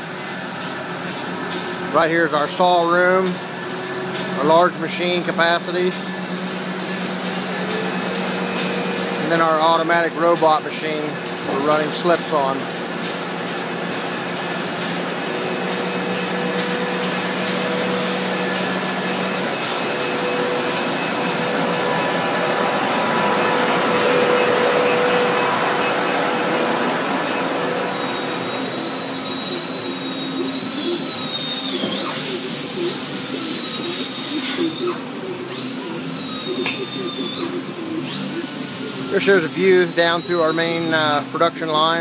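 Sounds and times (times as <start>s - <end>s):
machine-shop hum and hiss: 0.0s - 42.0s
thin high whine: 1.4s - 42.0s.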